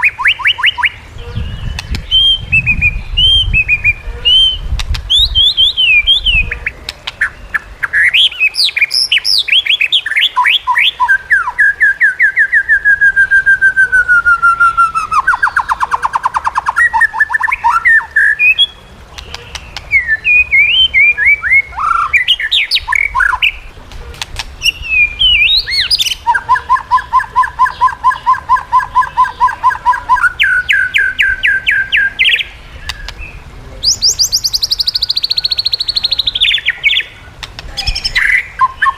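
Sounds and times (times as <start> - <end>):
bird singing whistles and trills: 0.0 - 23.7, 24.6 - 38.9.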